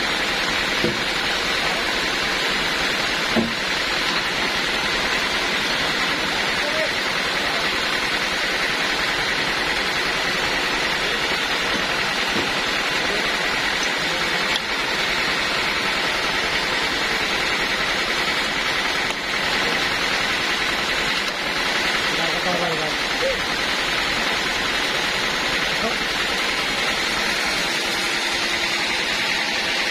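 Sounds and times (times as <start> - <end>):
band sawmill running: 0.0 - 29.9.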